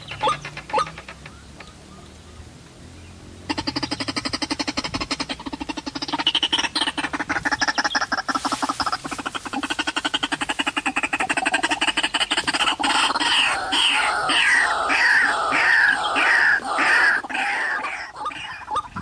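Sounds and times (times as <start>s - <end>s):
waterhen calling: 0.0s - 19.0s.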